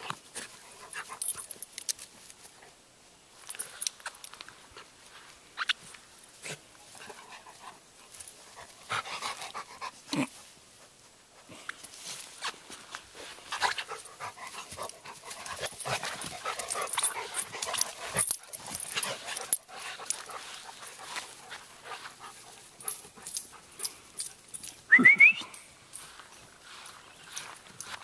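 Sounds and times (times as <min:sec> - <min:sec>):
dogs scuffling on grass: 0:00.0 - 0:24.9, 0:25.7 - 0:28.0.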